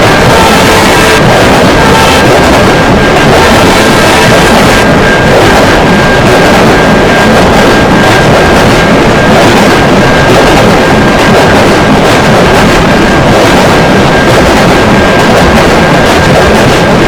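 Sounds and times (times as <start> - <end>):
train rumble and rail noise: 0.0 - 17.0.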